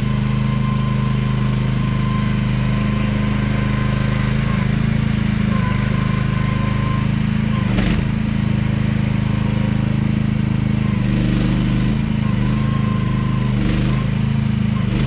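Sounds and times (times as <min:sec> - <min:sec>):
excavator engine running: 0:00.0 - 0:15.0
thin whine: 0:00.0 - 0:15.0.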